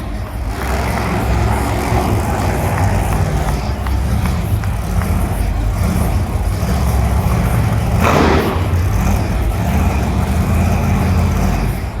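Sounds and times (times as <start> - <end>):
monster truck engine running hard: 0.0 - 12.0.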